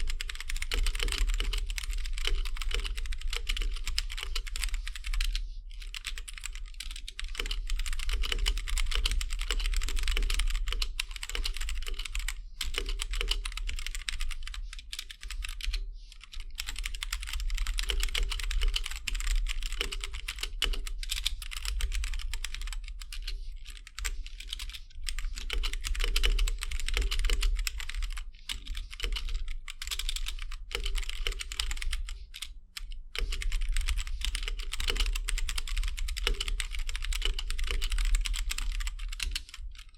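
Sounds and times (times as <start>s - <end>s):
fast typing on mechanical keyboard: 0.0s - 39.9s
steady low hum: 0.0s - 39.9s.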